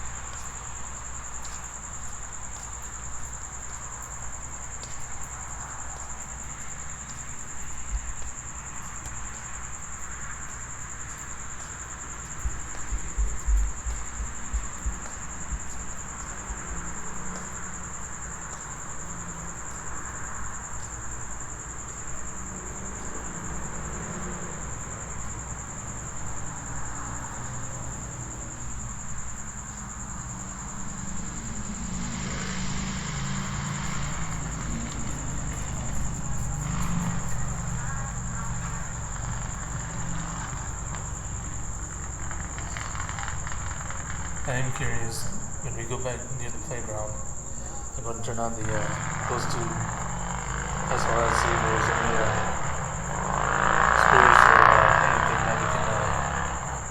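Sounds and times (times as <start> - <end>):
crickets chirring: 0.0 - 56.9
traffic rumble: 0.0 - 56.9
vehicle passing: 0.0 - 56.9.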